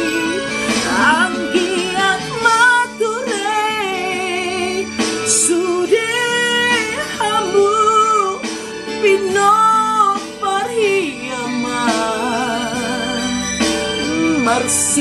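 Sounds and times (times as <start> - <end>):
backing music: 0.0 - 15.0
woman singing: 0.0 - 15.0.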